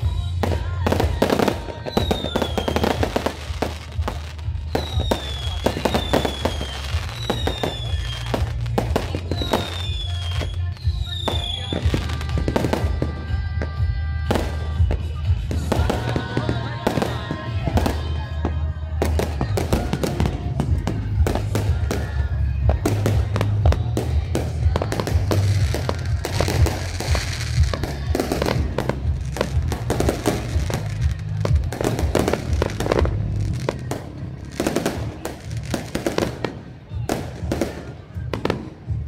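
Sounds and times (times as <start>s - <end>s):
fireworks bangs and crackles: 0.0s - 39.0s
music with heavy bass: 0.0s - 39.0s.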